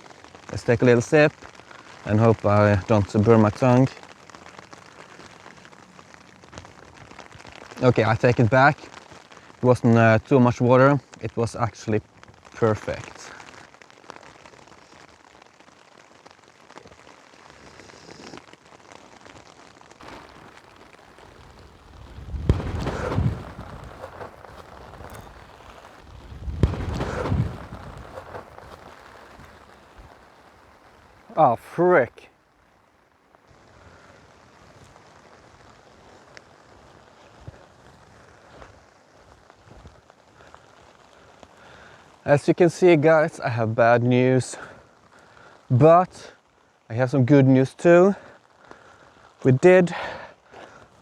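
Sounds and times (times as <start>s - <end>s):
rain pattering on a tarp: 0.0s - 51.0s.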